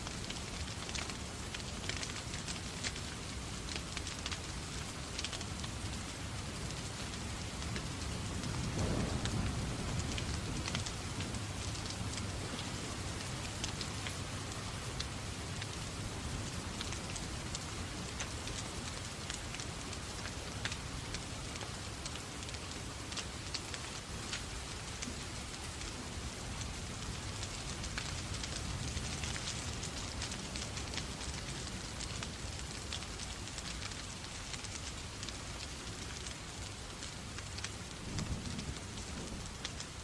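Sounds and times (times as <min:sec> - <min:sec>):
fireplace fire crackling: 0:00.0 - 0:40.0
steady rain: 0:00.0 - 0:40.0.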